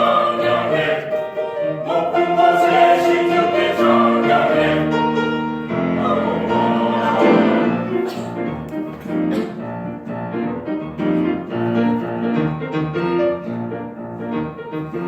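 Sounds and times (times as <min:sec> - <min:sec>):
gospel piano chords and melody: 0:00.0 - 0:15.0.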